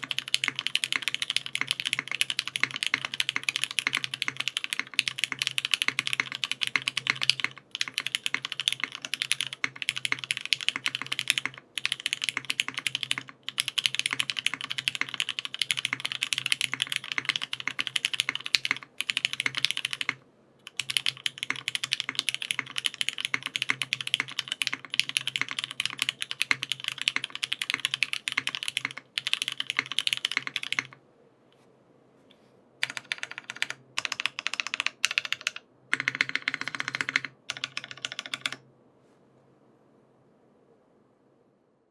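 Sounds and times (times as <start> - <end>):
fast typing on mechanical keyboard: 0.0 - 31.0, 32.8 - 38.6.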